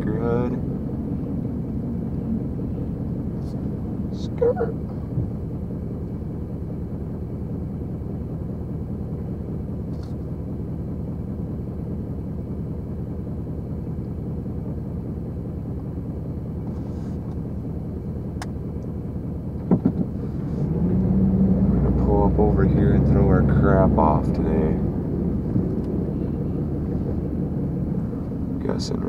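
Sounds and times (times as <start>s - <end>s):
pickup truck engine idling: 0.0s - 20.8s, 21.4s - 29.0s.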